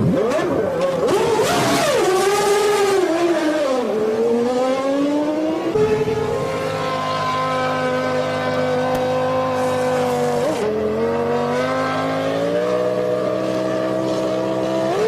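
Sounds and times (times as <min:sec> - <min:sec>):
racing car engine running loud: 0:00.0 - 0:15.0.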